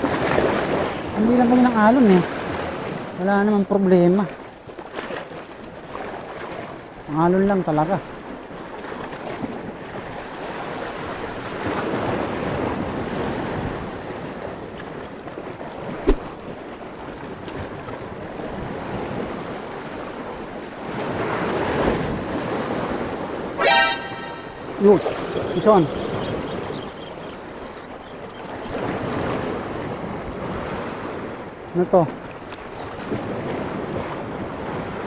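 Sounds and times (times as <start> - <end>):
wind buffeting microphone: 0.0 - 7.3, 8.0 - 23.6, 24.5 - 35.0
waves breaking on rocky shore: 0.0 - 35.0.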